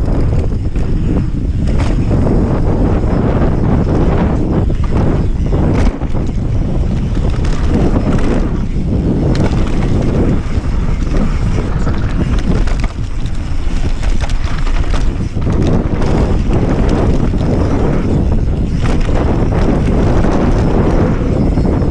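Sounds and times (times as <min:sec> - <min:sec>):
bike tyres rolling on dirt: 0:00.0 - 0:21.9
wind buffeting microphone: 0:00.0 - 0:21.9.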